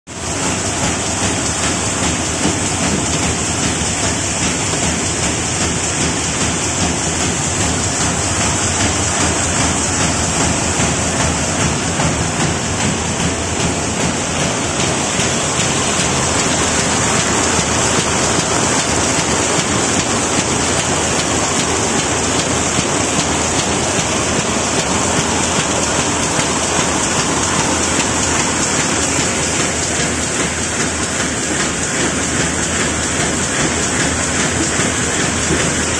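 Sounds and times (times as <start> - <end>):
paper bag machine running: 0.1 - 35.9.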